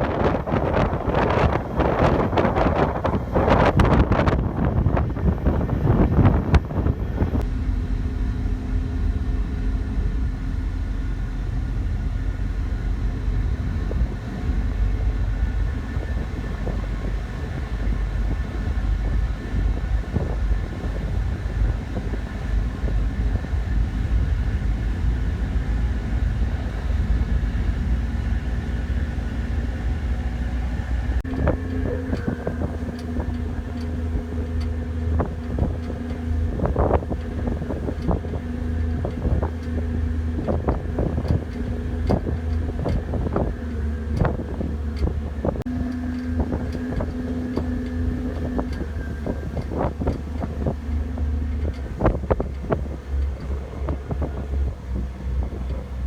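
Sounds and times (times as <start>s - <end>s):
ferry engines rumbling: 0.0s - 56.0s
wind buffeting microphone: 0.0s - 56.0s.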